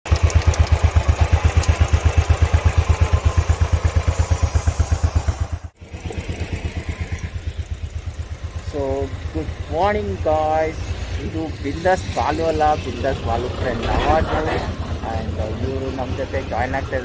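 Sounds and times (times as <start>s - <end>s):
motorcycle engine idling: 0.1s - 17.0s.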